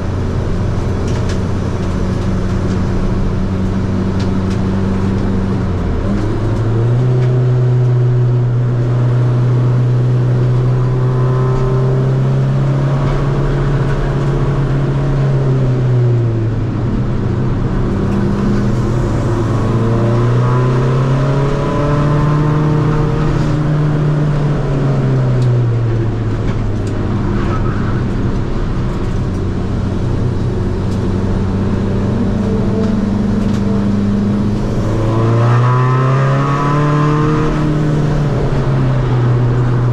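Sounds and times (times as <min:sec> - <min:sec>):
diesel engine driven hard: 0:00.0 - 0:39.9.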